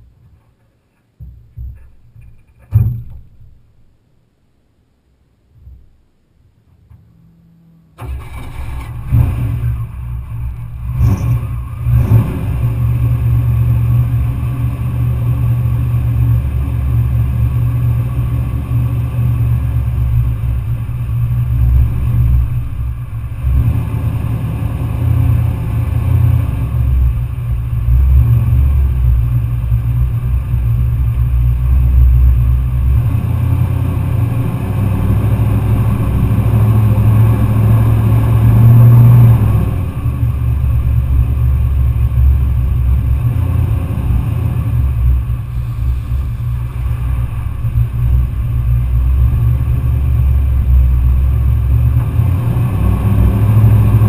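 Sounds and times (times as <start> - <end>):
engine throttle blips: 6.9 - 54.0
truck engine idling: 8.0 - 54.0.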